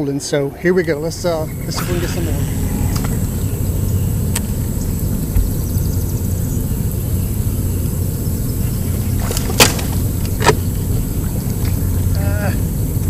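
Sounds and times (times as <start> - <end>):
low drone and hiss: 0.0 - 13.0.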